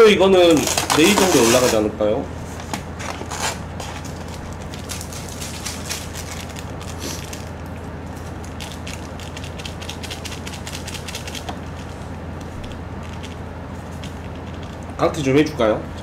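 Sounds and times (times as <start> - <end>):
steady low hum: 0.0 - 16.0
foil lids crinkling: 0.4 - 1.9, 2.6 - 14.8.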